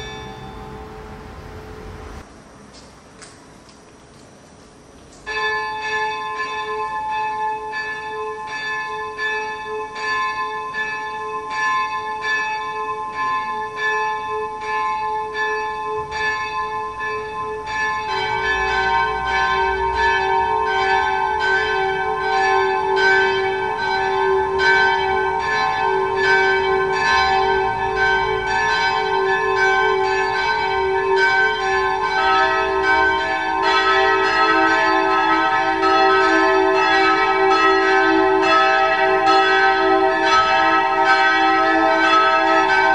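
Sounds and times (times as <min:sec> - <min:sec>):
church bells striking: 0:00.0 - 0:02.2, 0:05.3 - 0:42.9.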